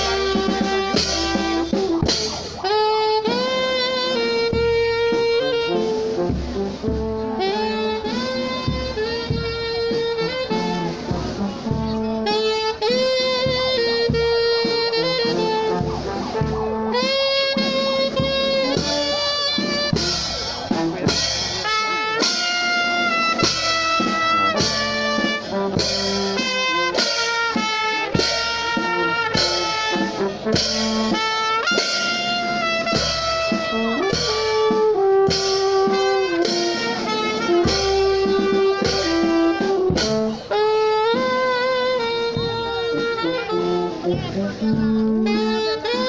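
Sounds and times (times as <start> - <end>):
brass band playing march: 0.0 - 46.0
steady drum beat: 0.0 - 46.0.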